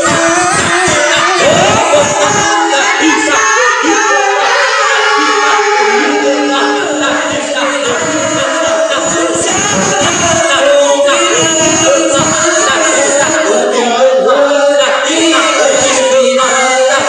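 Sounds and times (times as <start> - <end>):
congregation chanting: 0.0 - 17.0.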